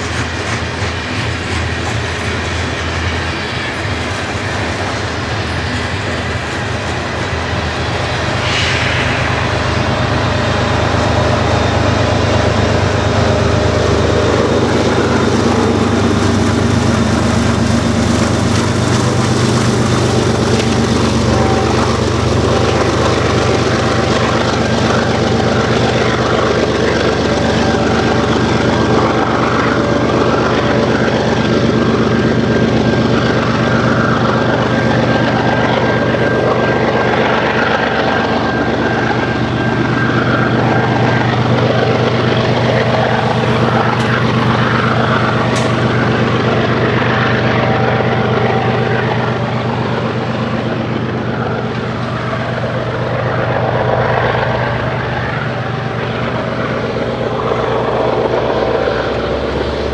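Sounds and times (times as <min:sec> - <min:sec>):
diesel locomotive engine drone: 0:00.0 - 0:59.9
freight cars rumbling on rails: 0:00.0 - 0:59.9.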